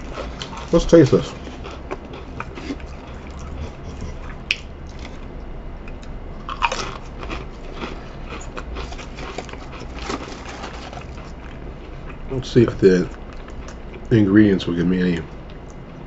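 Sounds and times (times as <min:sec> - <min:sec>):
crunching potato crisp: 0:00.0 - 0:14.2.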